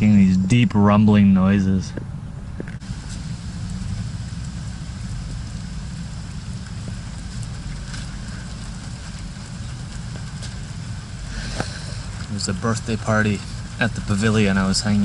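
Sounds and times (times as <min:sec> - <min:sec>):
distant thunder rumbling: 0:02.2 - 0:15.0
faint even hiss: 0:02.8 - 0:15.0.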